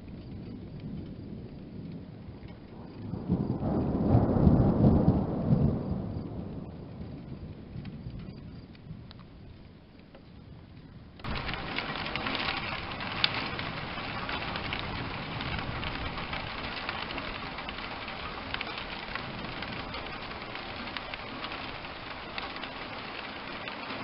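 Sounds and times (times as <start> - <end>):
heavy rain pattering: 0.0 - 24.0
low rumble of thunder: 0.0 - 24.0.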